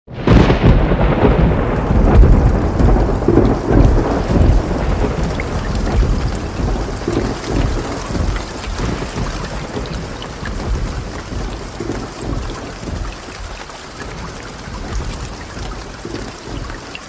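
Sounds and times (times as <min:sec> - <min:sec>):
steady rain: 0:00.1 - 0:17.0
thunder rumbling: 0:00.1 - 0:17.0.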